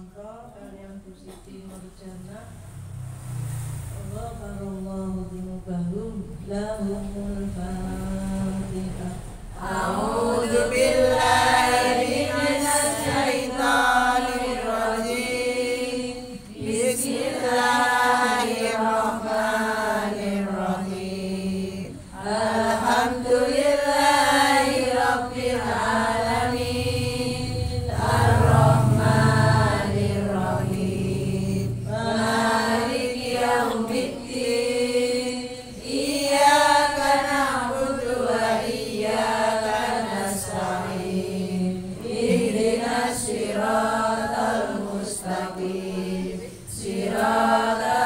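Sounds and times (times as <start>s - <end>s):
women chanting in unison: 3.4s - 48.0s.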